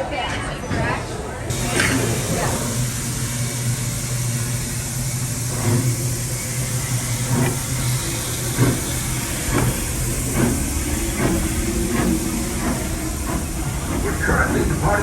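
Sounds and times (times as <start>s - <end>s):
steam locomotive exhaust chuffs: 1.5s - 15.0s.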